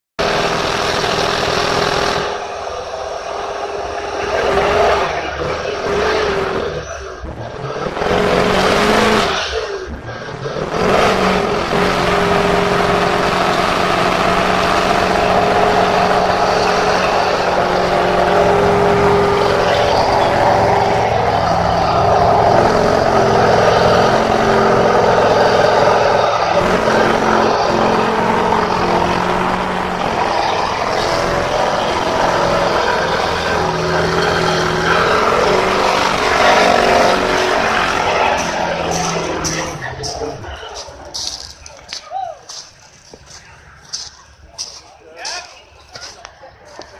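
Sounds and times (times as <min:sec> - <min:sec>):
truck engines running: 0:00.0 - 0:46.9.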